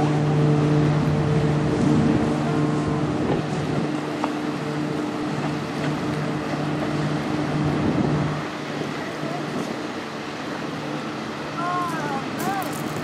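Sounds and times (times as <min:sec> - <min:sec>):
rushing water: 0:00.0 - 0:13.0
ship machinery humming: 0:00.0 - 0:13.0
wind: 0:00.0 - 0:13.0.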